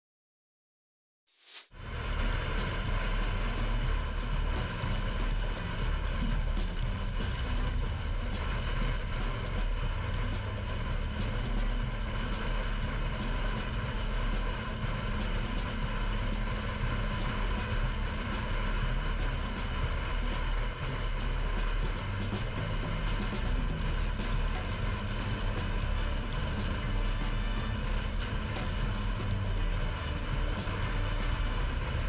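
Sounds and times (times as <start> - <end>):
car road and engine noise: 1.8 - 32.0.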